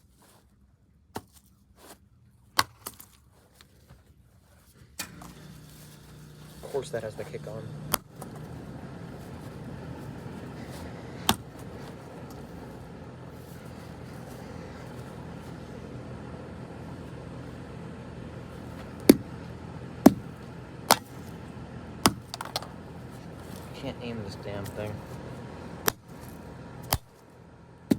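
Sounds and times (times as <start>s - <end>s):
steady low hum: 4.7s - 27.9s.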